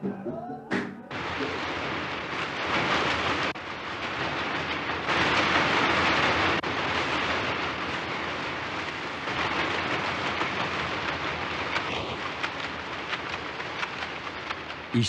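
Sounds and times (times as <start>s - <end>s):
spinning machinery whirring clatter: 1.8s - 15.0s.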